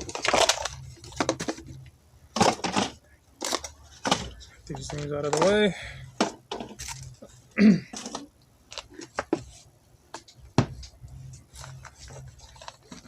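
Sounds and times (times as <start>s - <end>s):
plastic packaging clicks and rustles: 0.0s - 13.0s.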